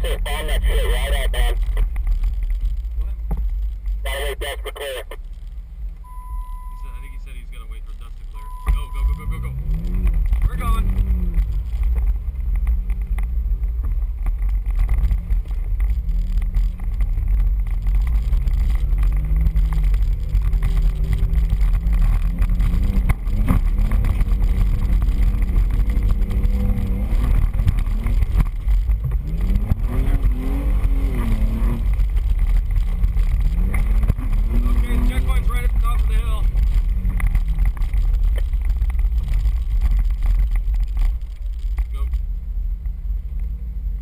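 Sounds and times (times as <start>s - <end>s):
off-road vehicle engine running: 0.0s - 44.0s
wind rumble on microphone: 0.0s - 44.0s.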